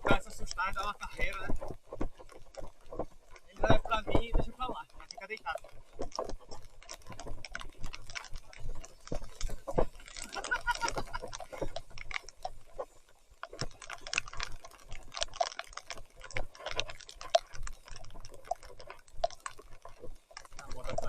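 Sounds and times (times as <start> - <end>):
mountain bike ticks and knocks: 0.0 - 21.0.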